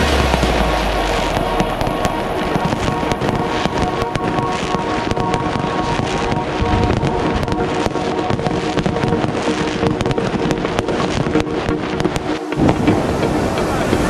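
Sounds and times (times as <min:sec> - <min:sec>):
fireworks banging and crackling: 0:00.0 - 0:14.0
music playing: 0:00.0 - 0:14.0.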